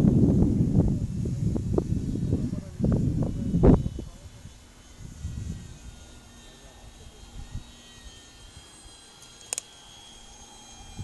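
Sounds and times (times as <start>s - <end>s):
wind rumble on microphone: 0.0s - 8.6s, 10.7s - 11.0s
model plane motor whine: 0.0s - 11.0s.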